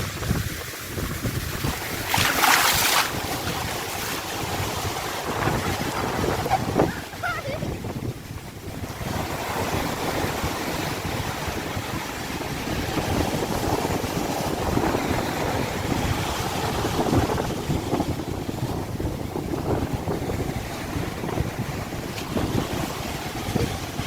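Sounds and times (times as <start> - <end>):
sea surf washing: 0.0 - 24.0
wind buffeting microphone: 0.0 - 24.0.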